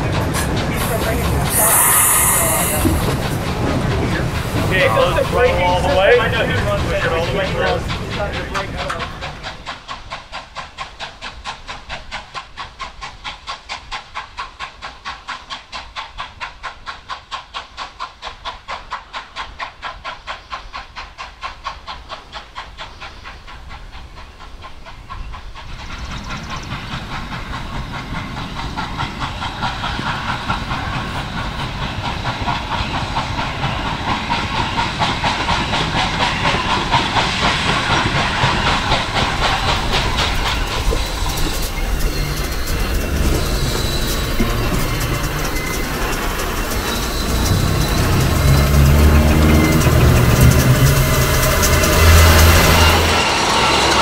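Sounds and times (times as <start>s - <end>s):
steam hissing: 0.0s - 54.0s
steam locomotive exhaust chuffs: 0.0s - 54.0s.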